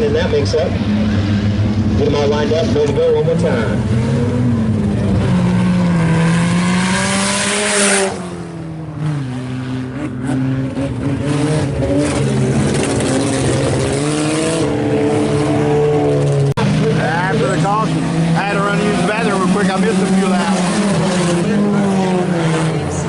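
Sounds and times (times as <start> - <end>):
race car engines running: 0.0 - 23.0.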